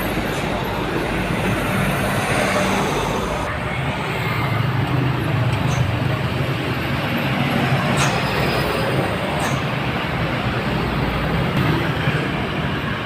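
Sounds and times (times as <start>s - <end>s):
dump truck engine running: 0.0s - 13.0s.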